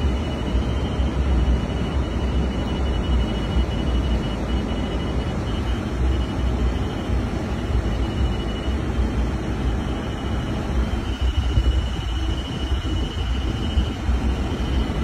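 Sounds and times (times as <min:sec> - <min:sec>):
faint high-pitched tone: 0:00.0 - 0:15.0.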